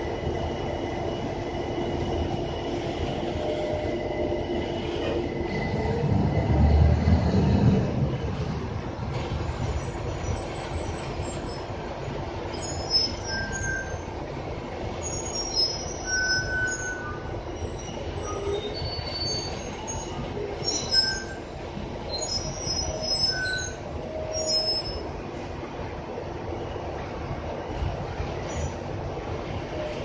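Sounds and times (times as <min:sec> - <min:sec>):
bus ride rumble: 0:00.0 - 0:30.0.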